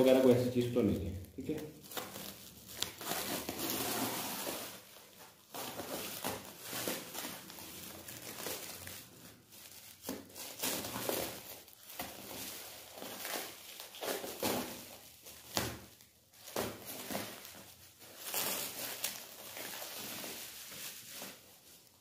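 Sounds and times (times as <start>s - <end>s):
plastic wrap crinkling: 0.0s - 22.0s.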